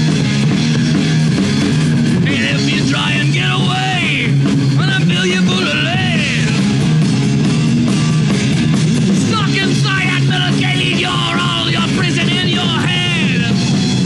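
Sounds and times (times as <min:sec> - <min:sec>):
distorted electric guitar: 0:00.0 - 0:14.0
drums: 0:00.0 - 0:14.0
electric bass: 0:00.0 - 0:14.0.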